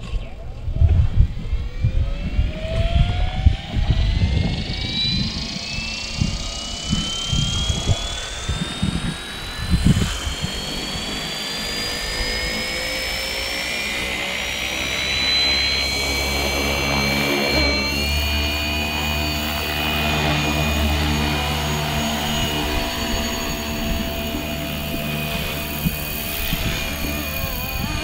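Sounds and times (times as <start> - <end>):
rc helicopter motor whine: 0.0 - 28.0.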